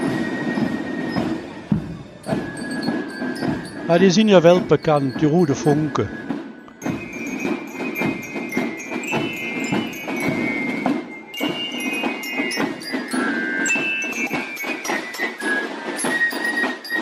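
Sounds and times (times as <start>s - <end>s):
drum strokes: 0.0s - 17.0s
fife melody: 0.0s - 17.0s.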